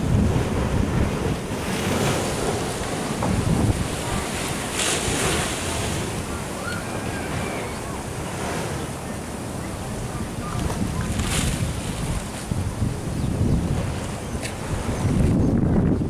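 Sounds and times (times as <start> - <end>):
ocean surf washing in: 0.0 - 15.9
wind buffeting microphone: 0.0 - 16.0.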